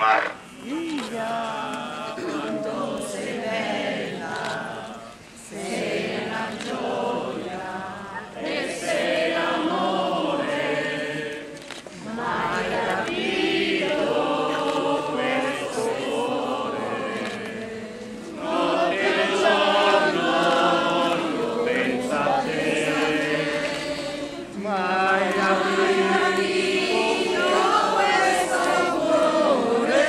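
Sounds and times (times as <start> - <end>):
group of voices singing a hymn: 0.0 - 30.0.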